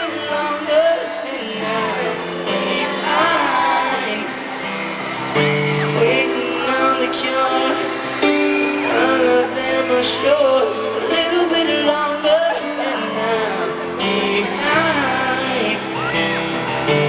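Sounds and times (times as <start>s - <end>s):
audience singing and screaming: 0.0s - 17.0s
live pop ballad: 0.0s - 17.0s.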